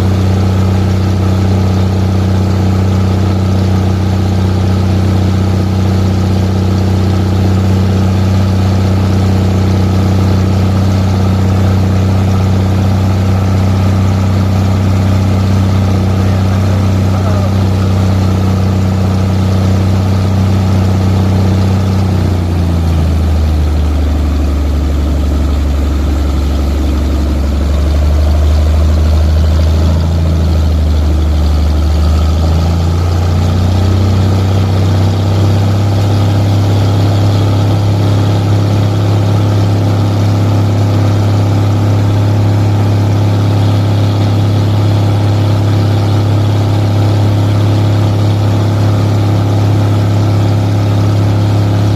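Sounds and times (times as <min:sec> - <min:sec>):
engine running with low hum: 0:00.0 - 0:51.9.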